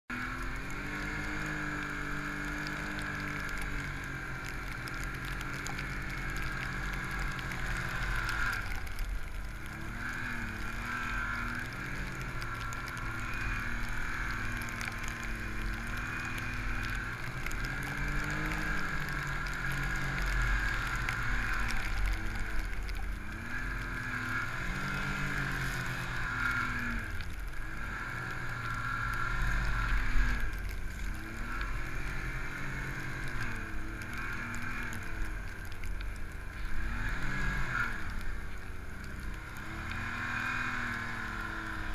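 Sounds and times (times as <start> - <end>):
snowmobile engine revving: 0.1 - 8.8, 9.7 - 22.6, 23.2 - 35.3, 36.4 - 38.2, 39.0 - 41.9.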